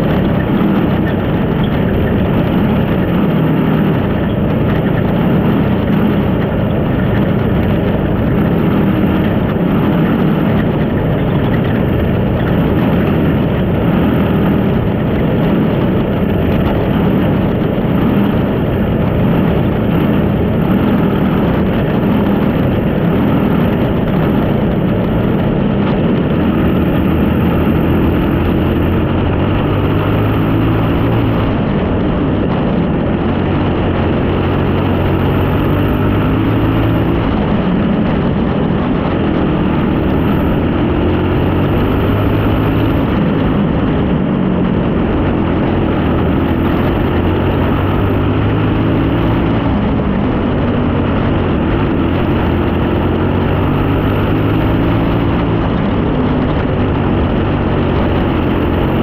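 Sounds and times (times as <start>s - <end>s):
race car engine running steadily: 0.0s - 59.0s.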